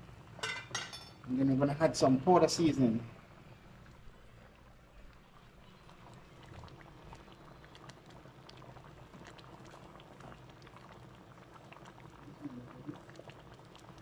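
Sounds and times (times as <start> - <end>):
stew bubbling: 2.0 - 14.0.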